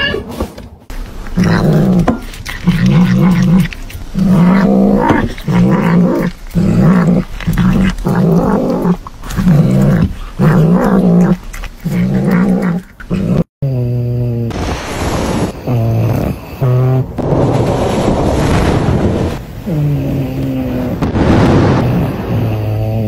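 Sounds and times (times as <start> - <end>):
cat growling while eating: 0.9 - 14.6, 15.4 - 17.2, 19.3 - 23.0.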